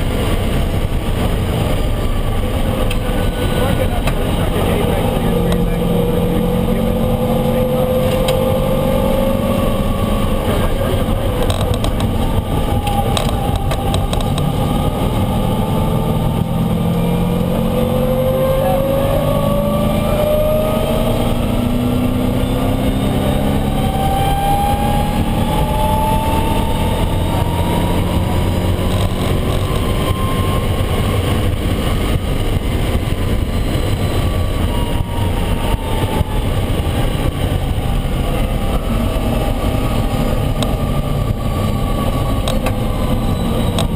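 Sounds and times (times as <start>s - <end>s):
car engine at full throttle: 0.0s - 43.9s.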